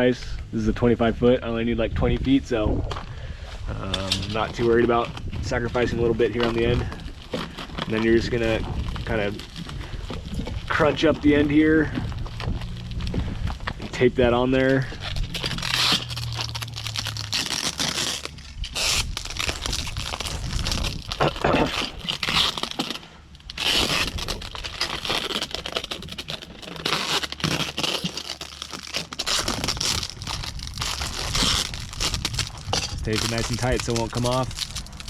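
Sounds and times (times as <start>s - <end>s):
plastic crinkling: 3.7s - 35.0s
tape ripping off roll: 3.7s - 35.0s.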